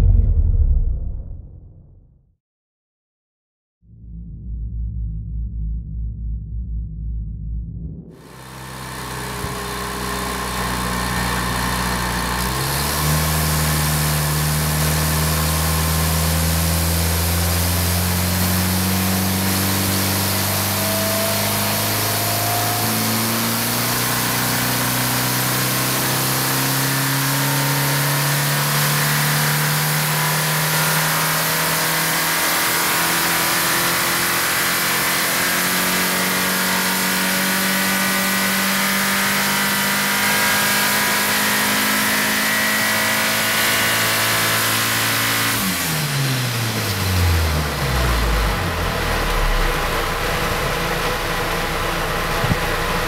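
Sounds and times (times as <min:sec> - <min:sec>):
engine running under high load: 0:08.1 - 0:53.0.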